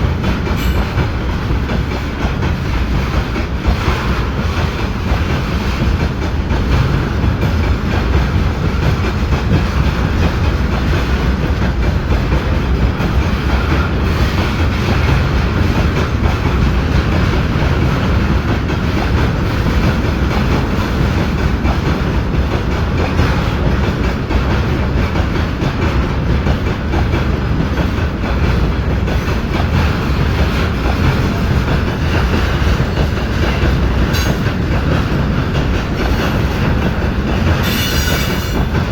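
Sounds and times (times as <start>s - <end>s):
freight train rumbling past: 0.0s - 38.9s
wheels clattering on rails: 0.0s - 38.9s.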